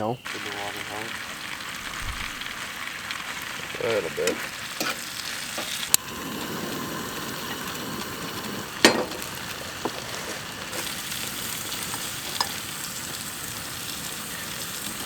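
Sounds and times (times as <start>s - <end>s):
potatoes sizzling in pan: 0.3s - 15.0s.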